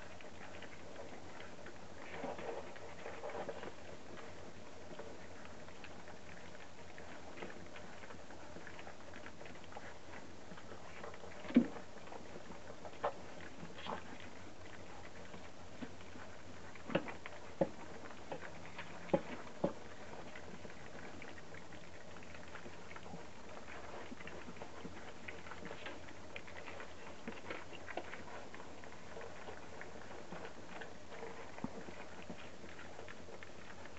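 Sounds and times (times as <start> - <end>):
paws scrabbling: 0.0 - 33.9
puppies crunching kibble: 0.0 - 33.9
puppies lapping: 0.0 - 33.9.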